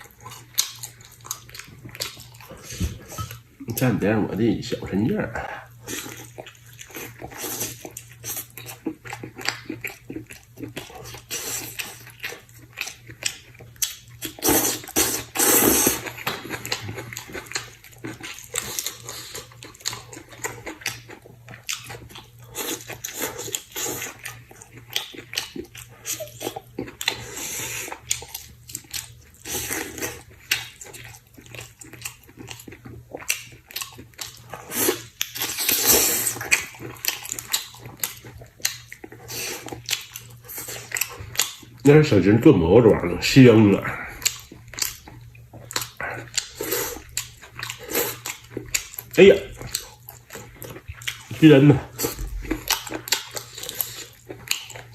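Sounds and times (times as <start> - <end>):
person chewing food: 0.0 - 42.0, 42.8 - 54.9.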